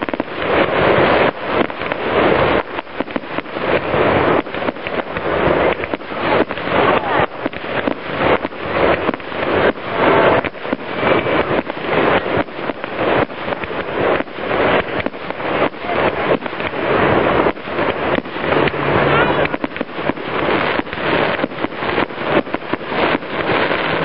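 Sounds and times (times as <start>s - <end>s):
firework shells bursting: 0.0s - 24.0s
fireworks popping and crackling: 0.0s - 24.0s.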